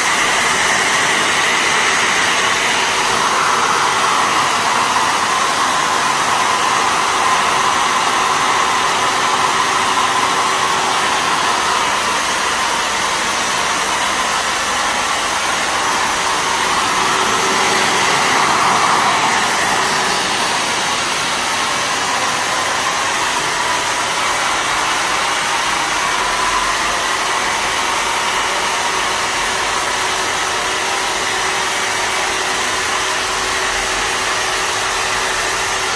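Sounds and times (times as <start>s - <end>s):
fogger blower motor whirring: 0.0s - 30.2s.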